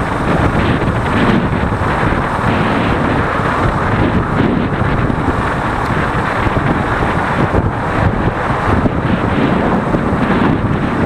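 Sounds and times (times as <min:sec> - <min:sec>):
motorcycle running: 0:00.0 - 0:11.0
road noise: 0:00.0 - 0:11.0
wind buffeting microphone: 0:00.0 - 0:11.0.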